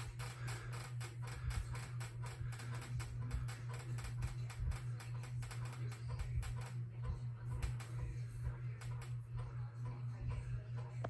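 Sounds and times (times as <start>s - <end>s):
ceiling fan motor hum: 0.0s - 11.0s
rhythmic fan ticking: 0.0s - 11.0s.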